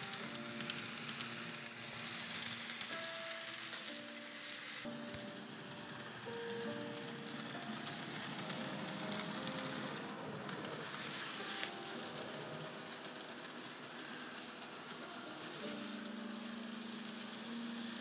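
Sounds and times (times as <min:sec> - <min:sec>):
model trains running on track: 0:00.0 - 0:18.0.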